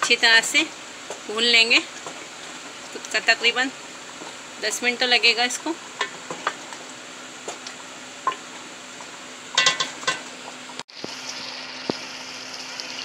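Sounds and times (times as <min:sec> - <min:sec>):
masala sizzling: 0:00.0 - 0:13.0.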